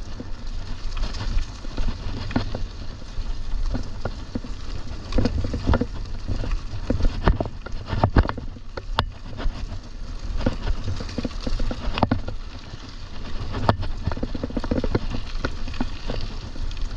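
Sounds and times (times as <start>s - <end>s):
bike knocks and rattles: 0.0s - 16.9s
low rumble of riding: 0.0s - 16.9s.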